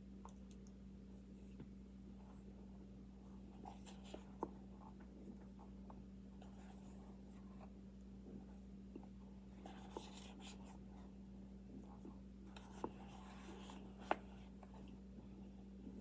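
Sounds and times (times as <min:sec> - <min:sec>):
steady low hum: 0:00.0 - 0:16.0
soft rubbing: 0:01.2 - 0:16.0.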